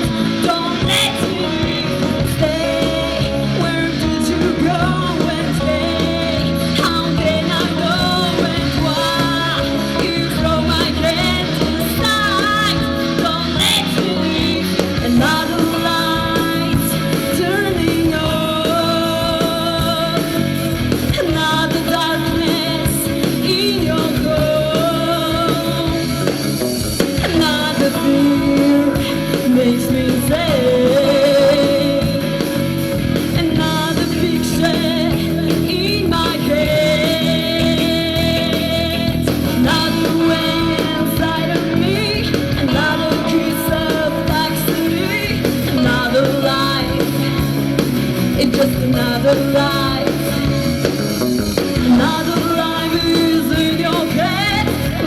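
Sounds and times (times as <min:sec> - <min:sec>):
person singing: 0:00.0 - 0:51.0, 0:51.6 - 0:55.0
rock band playing: 0:00.0 - 0:55.0.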